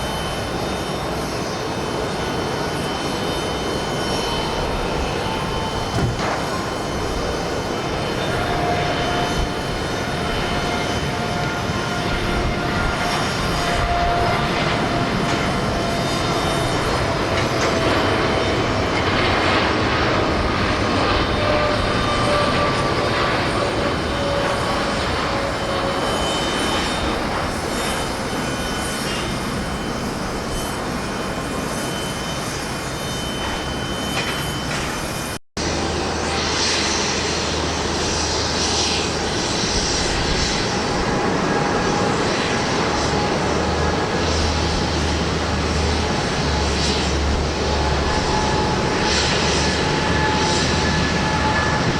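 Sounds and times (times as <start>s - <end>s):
jet engines at takeoff: 0.0s - 51.9s.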